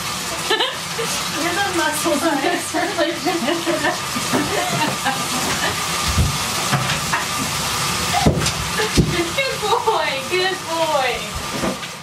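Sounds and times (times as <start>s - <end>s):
water running in bathtub: 0.0s - 12.0s.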